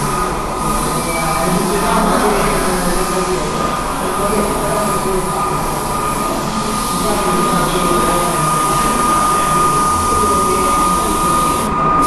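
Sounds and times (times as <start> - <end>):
airbrush hissing: 0.0 - 12.0
high whine: 0.0 - 12.0.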